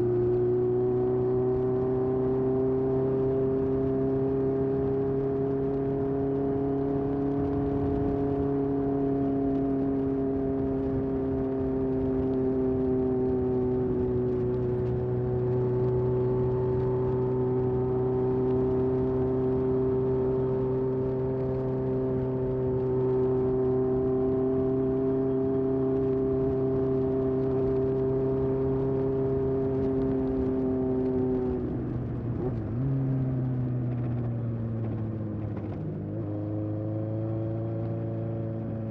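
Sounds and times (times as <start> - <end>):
motorcycle exhaust at cruising speed: 0.0 - 38.9.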